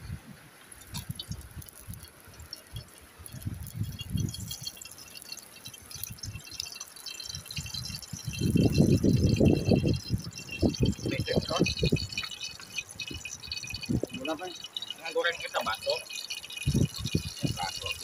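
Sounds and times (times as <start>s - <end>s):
oil glugging from a bottle: 0.7s - 18.0s.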